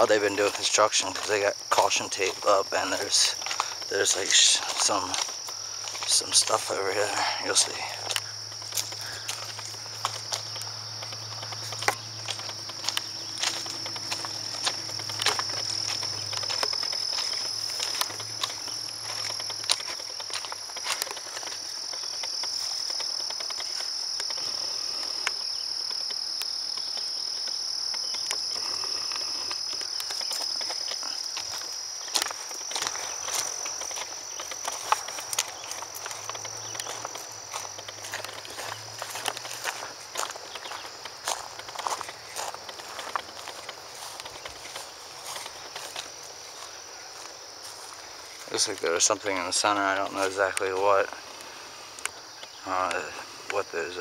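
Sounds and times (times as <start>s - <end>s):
footsteps through tall grass: 0.0s - 53.2s
high-pitched insect chorus: 0.0s - 54.0s.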